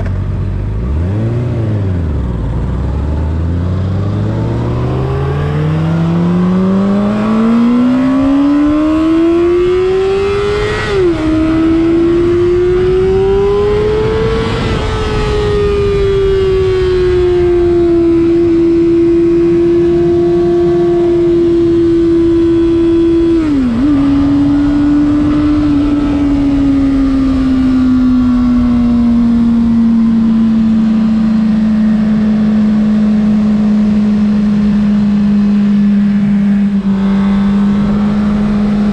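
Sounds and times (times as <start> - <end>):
motorcycle engine accelerating: 0.0 - 38.9
wind on microphone: 3.8 - 38.9.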